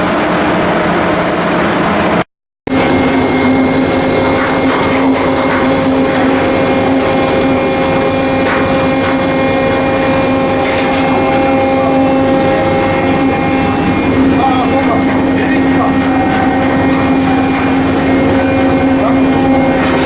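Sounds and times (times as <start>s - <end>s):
heavy machinery droning: 0.0s - 20.0s.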